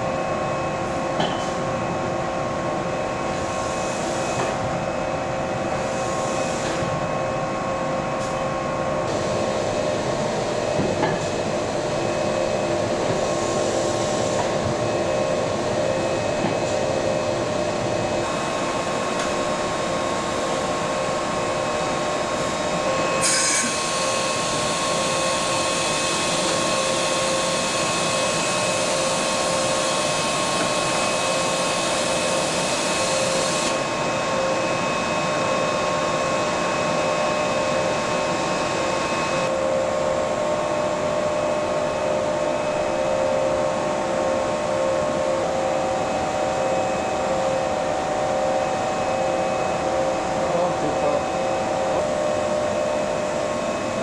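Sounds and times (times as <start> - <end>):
machinery hum with steady tones: 0.0 - 54.0.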